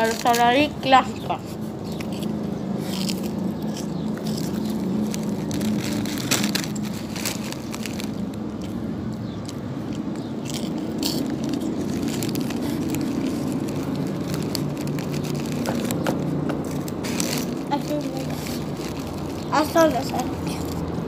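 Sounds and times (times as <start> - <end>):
mouth chewing crunchy crackers: 0.0 - 21.0
steady low hum: 0.0 - 21.0.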